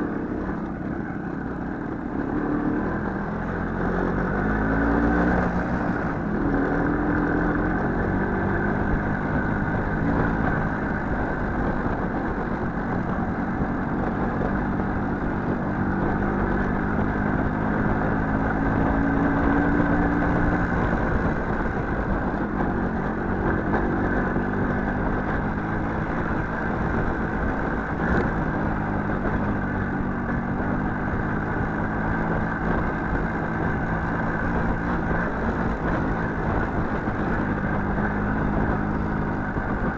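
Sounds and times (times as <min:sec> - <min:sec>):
small motorcycle engine revving: 0:00.0 - 0:39.9.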